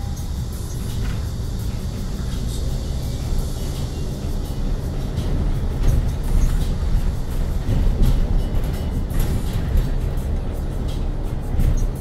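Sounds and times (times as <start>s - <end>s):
bus body rattles and knocks: 0.0s - 12.0s
road and tyre rumble: 0.0s - 12.0s.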